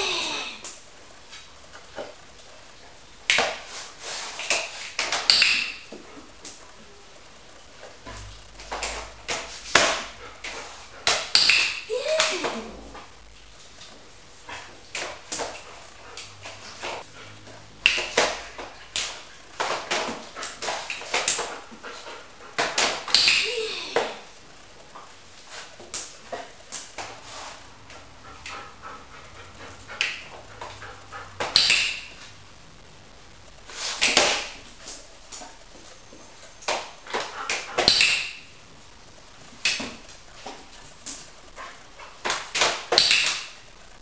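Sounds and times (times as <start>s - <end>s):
dog claws on tiled floor: 0.6s - 6.8s, 7.6s - 32.4s, 33.7s - 38.5s, 39.4s - 43.7s.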